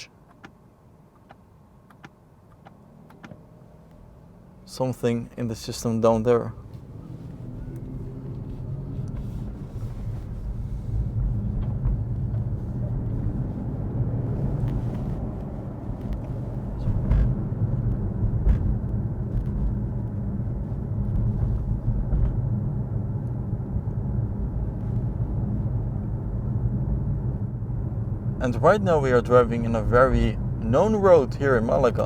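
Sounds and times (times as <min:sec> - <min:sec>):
car tyres and drivetrain rumble: 0:00.0 - 0:32.0.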